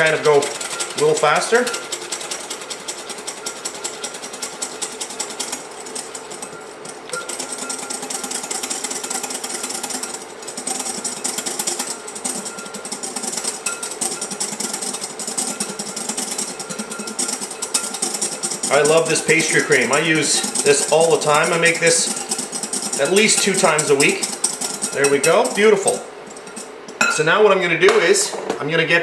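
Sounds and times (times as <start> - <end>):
whisk beating in glass bowl: 0.0 - 27.2.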